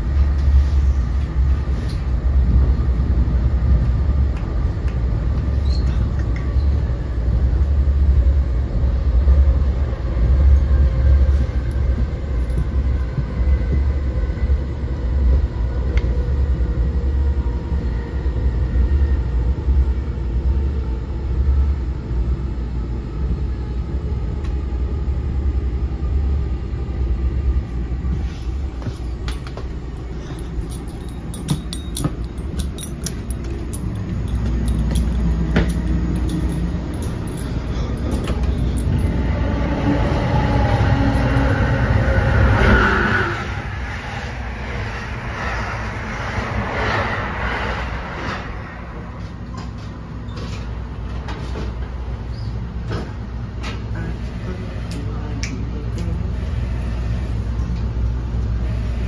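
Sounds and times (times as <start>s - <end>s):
higher-pitched train noise: 0.0s - 59.0s
train rumbling on track: 0.0s - 59.0s.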